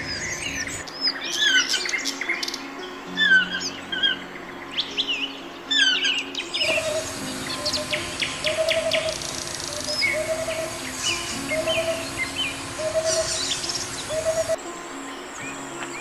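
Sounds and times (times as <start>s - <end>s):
outdoor hiss: 0.0s - 16.0s
small birds chirping: 0.0s - 16.0s
soft background music: 0.0s - 16.0s.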